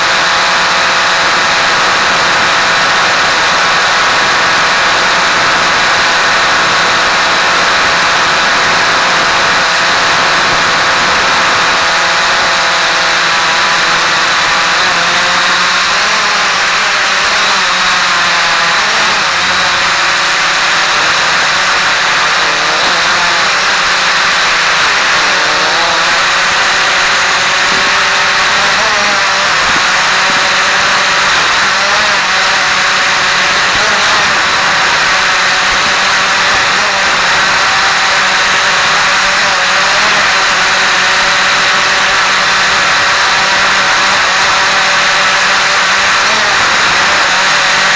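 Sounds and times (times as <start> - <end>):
drone propellers whining: 0.0 - 47.9.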